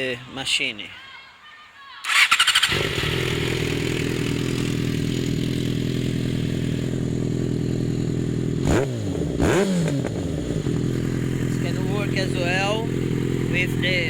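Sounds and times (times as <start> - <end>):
motorcycle engine idling: 2.2 - 14.0.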